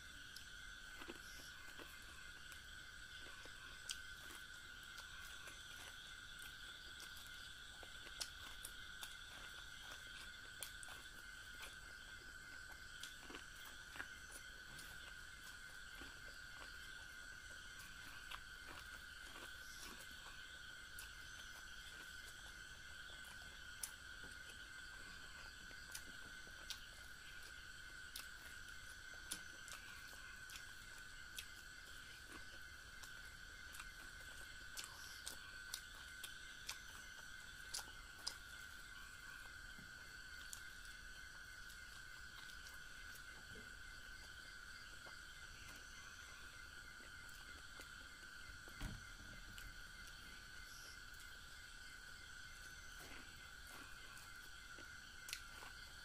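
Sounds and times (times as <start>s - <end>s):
chewing corn on the cob: 0.0s - 56.0s
faint high-pitched hum: 0.0s - 56.0s.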